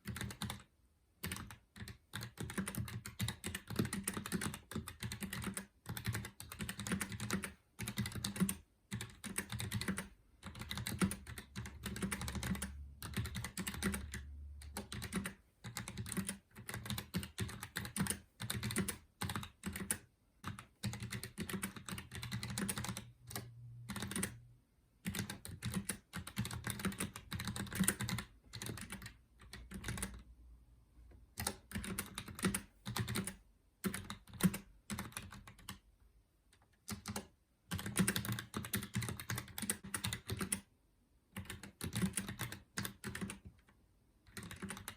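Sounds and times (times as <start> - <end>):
mechanical keyboard typing: 0.0 - 24.4, 25.0 - 30.2, 31.3 - 35.8, 36.6 - 40.7, 41.4 - 44.9.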